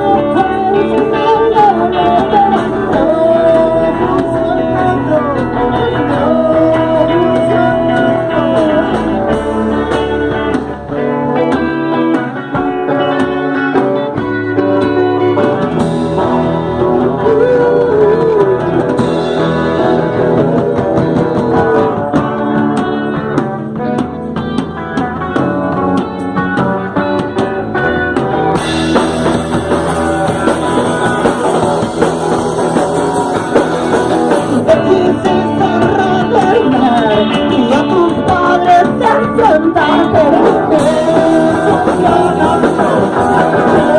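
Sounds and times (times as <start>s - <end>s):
person singing: 0.0s - 23.2s, 28.5s - 43.9s
guitar: 0.0s - 43.9s
rock music rehearsal: 0.0s - 43.9s.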